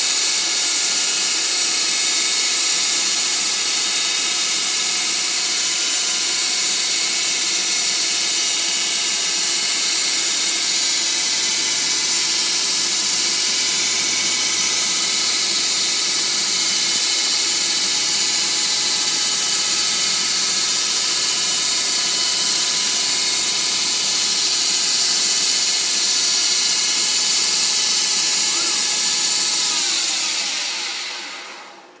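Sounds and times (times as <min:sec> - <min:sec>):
metal lathe whining: 0:00.0 - 0:32.0.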